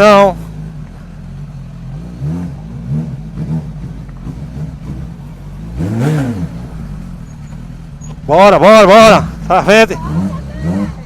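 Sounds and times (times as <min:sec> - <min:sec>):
low motorcycle engine idling: 0:00.0 - 0:05.8, 0:06.4 - 0:11.0
motorcycle engine revving: 0:00.0 - 0:11.0.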